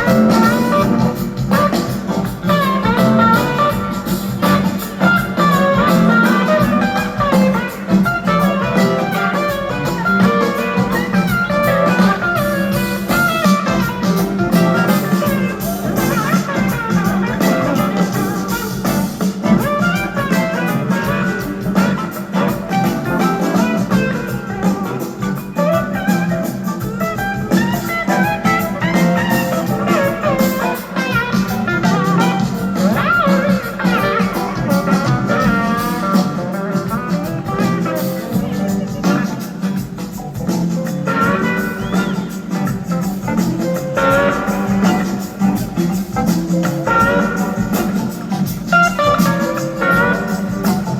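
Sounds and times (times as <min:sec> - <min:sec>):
electric guitar lead line: 0:00.0 - 0:50.9
live band playing: 0:00.0 - 0:50.9.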